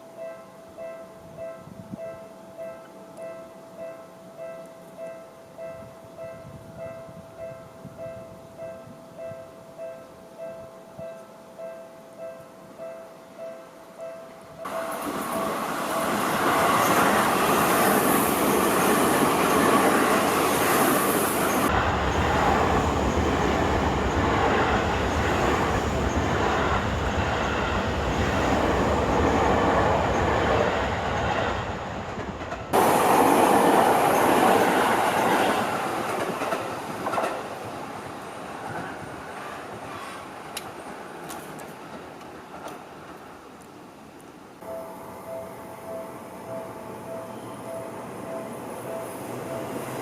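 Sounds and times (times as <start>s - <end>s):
electric train passing: 0.0s - 50.0s.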